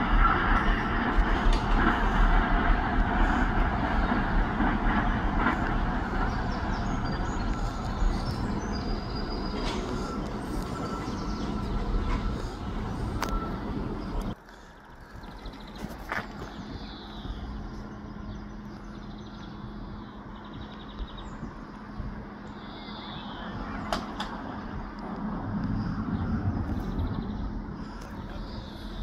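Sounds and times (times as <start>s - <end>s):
traffic engine hum: 0.0s - 29.0s
bird singing: 3.4s - 24.6s, 25.8s - 29.0s.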